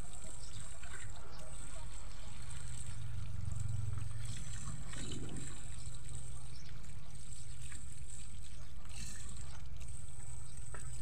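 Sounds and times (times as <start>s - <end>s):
water splashing from a pipe: 0.0s - 11.0s.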